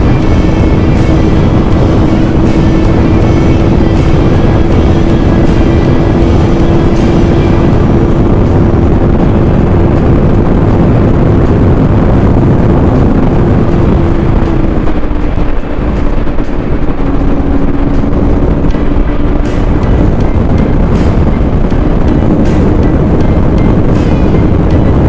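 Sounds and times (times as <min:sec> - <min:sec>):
motorcycle engine drone: 0:00.0 - 0:25.0
wind noise on microphone: 0:00.0 - 0:25.0.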